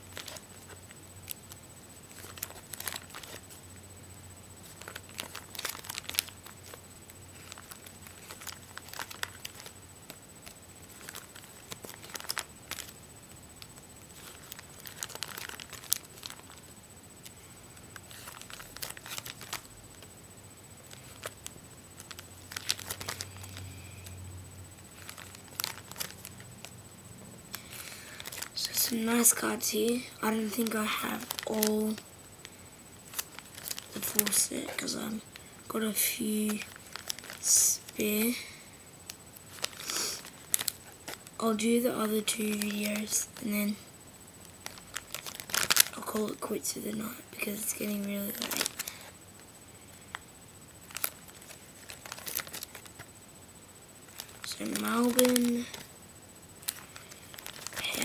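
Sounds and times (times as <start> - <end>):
plastic pages rustling: 0.0 - 1.5, 2.1 - 3.5, 4.6 - 13.0, 13.6 - 20.1, 20.8 - 23.7, 24.8 - 26.7, 27.5 - 38.5, 39.4 - 43.8, 44.4 - 49.1, 50.8 - 53.1, 54.1 - 55.9, 56.6 - 58.0.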